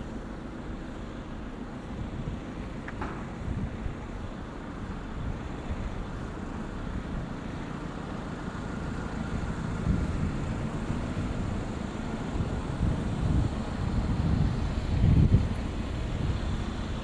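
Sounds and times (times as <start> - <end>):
van engine running: 0.0 - 17.0.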